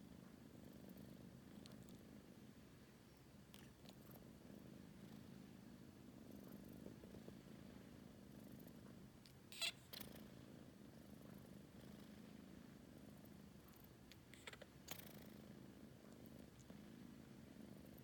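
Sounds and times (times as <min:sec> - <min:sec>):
kitten purring: 0:00.0 - 0:18.0.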